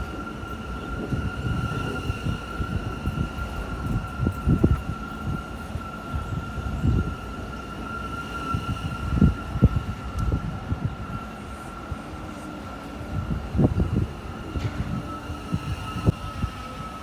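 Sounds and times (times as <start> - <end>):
subway train high whine: 0.0 - 17.0.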